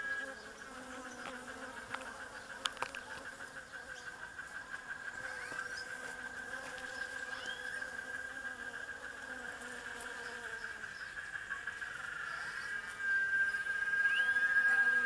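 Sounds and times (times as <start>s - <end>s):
bees buzzing: 0.0s - 15.0s
high-pitched insect buzz: 0.0s - 15.0s.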